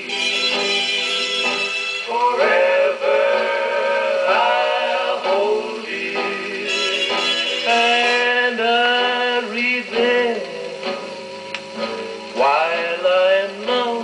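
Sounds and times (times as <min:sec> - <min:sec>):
gramophone record ballad: 0:00.0 - 0:14.0.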